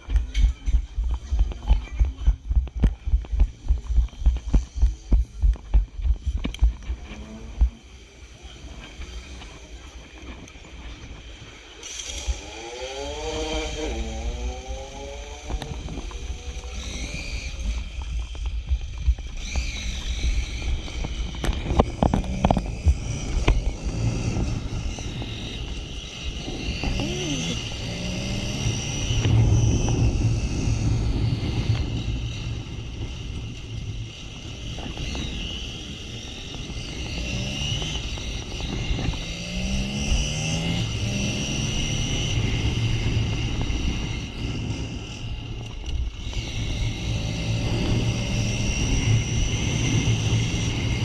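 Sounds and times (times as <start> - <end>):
motorcycle engine accelerating: 0.0 - 51.0
wind and road noise: 0.0 - 51.0.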